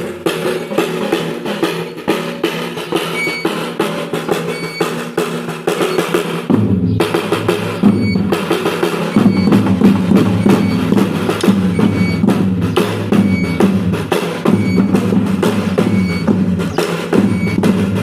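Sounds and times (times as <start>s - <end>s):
drums beating dance rhythm: 0.0s - 18.0s.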